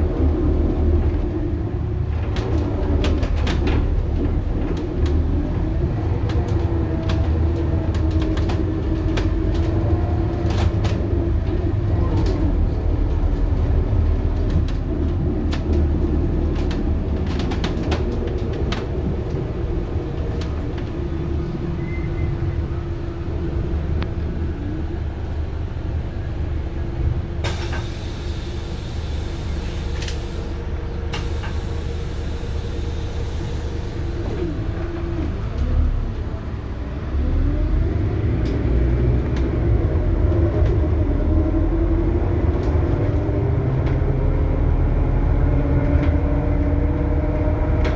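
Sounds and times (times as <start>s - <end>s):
bus engine rumbling: 0.0s - 47.9s.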